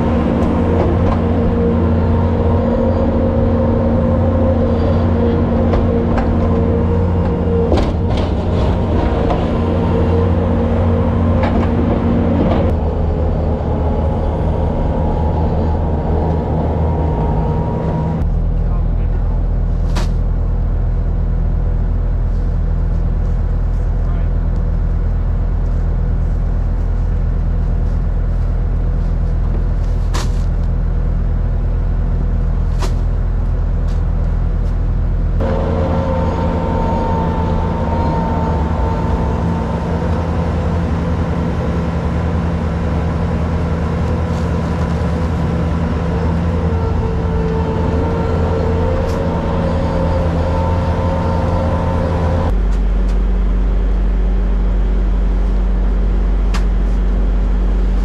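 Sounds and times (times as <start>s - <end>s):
farm machine engine running: 0.0s - 58.0s
whine: 0.0s - 58.0s.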